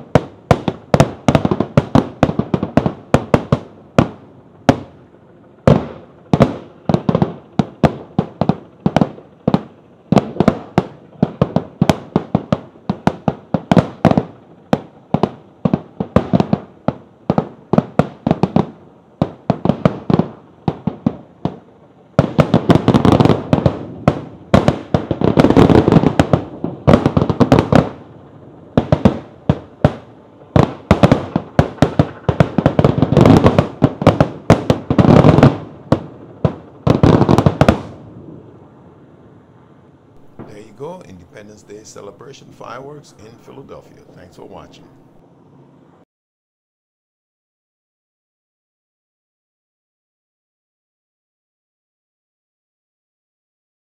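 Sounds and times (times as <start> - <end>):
fireworks bursting: 0.0 - 38.6, 40.1 - 45.3.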